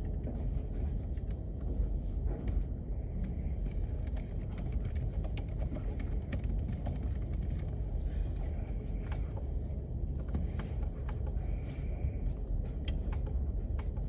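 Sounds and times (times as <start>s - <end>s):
low room noise rumble: 0.0s - 14.0s.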